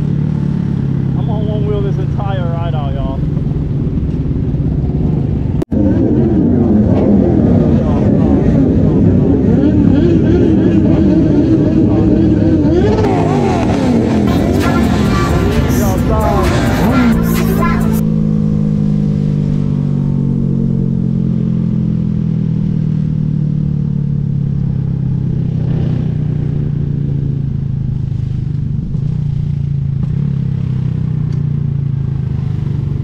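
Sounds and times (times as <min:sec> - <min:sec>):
low road rumble: 0:00.0 - 0:33.0
motorcycle engine running: 0:00.0 - 0:33.0.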